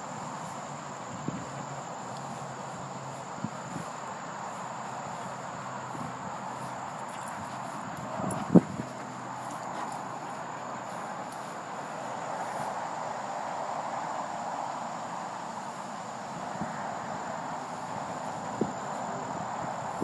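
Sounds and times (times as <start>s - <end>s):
crickets chirping drone: 0.0s - 20.0s.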